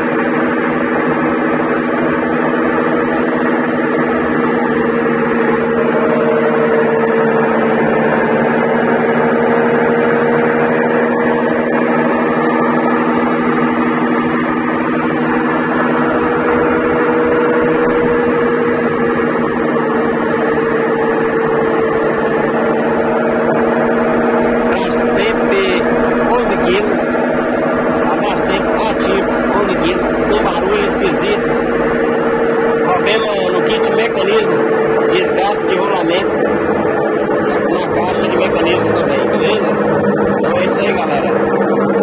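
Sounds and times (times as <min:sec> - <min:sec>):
washing machine spin droning: 0:00.0 - 0:42.0.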